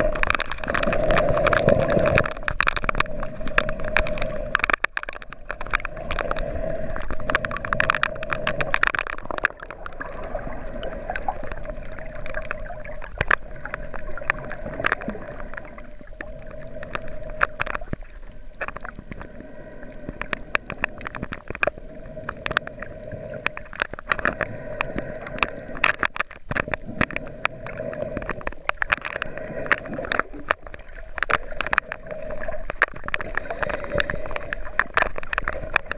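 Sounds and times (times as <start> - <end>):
muffled underwater water wash: 0.0 - 35.9
sharp underwater clicks and crackles: 0.0 - 35.9.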